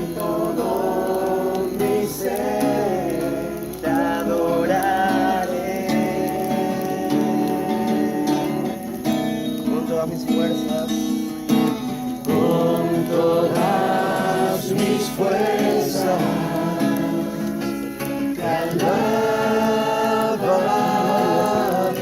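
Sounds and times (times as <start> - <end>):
acoustic guitar: 0.0 - 22.0
group singing worship song: 0.0 - 22.0.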